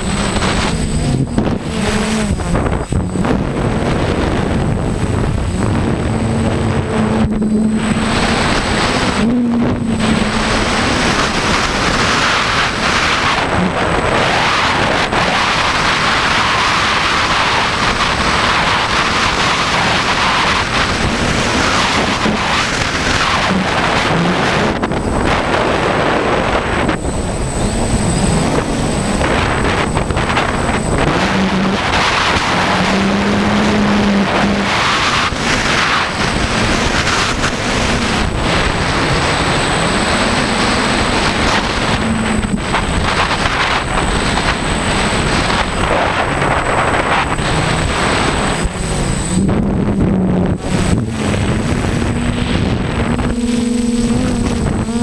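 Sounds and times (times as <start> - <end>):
drone motors and propellers humming: 0.0 - 55.0
wind buffeting microphone: 0.0 - 55.0.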